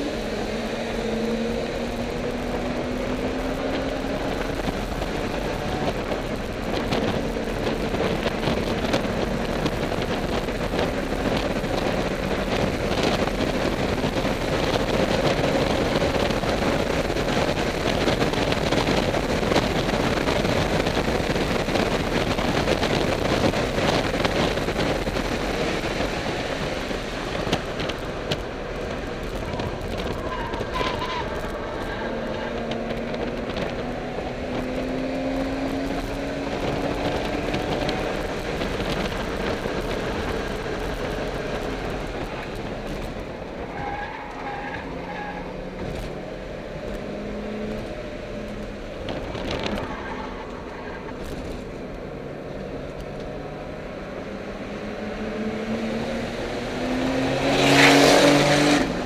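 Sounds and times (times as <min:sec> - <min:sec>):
car engine running hard: 0:00.0 - 0:59.0
wind noise: 0:00.0 - 0:59.0.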